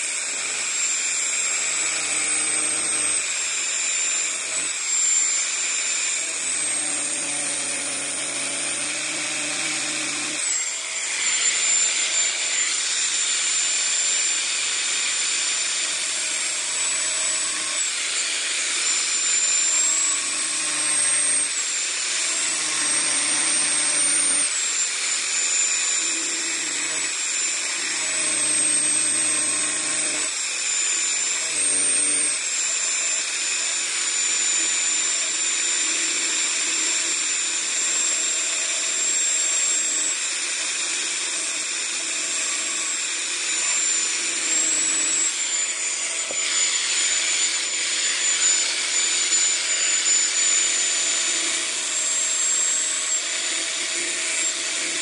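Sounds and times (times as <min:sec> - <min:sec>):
electric grinder whining: 0:00.0 - 0:55.0.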